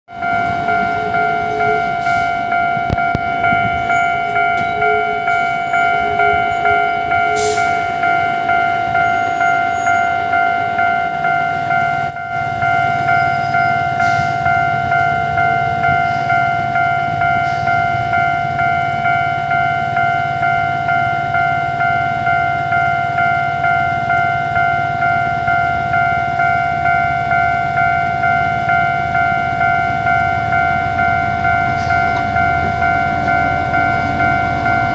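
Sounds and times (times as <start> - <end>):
level crossing signal pulsing tone: 0.2 - 34.9.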